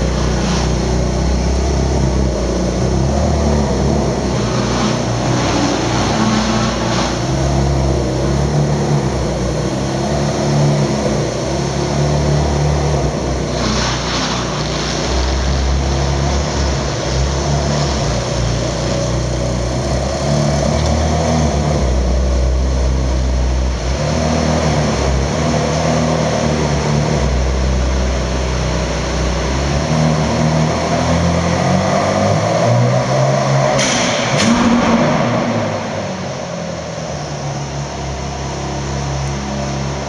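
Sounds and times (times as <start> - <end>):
car engine at low revs: 0.0 - 40.0.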